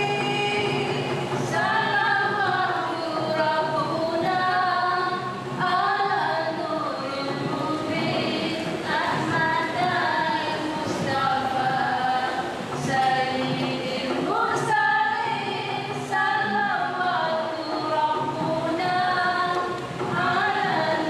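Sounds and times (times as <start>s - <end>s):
women singing unaccompanied: 0.0s - 21.0s.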